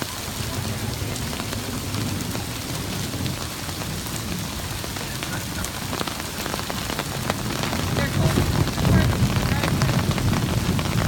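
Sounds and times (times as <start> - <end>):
heavy rain on standing water: 0.0 - 11.0.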